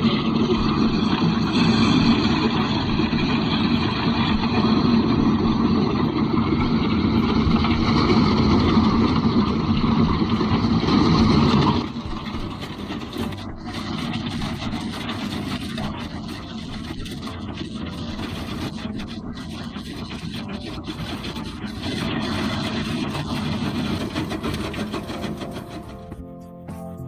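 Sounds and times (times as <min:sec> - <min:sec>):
heavy diesel machinery running: 0:00.0 - 0:26.4.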